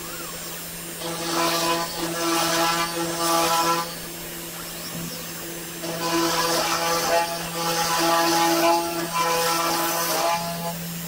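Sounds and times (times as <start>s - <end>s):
motor whine: 0.0s - 11.0s
router cutting plywood: 0.0s - 11.0s.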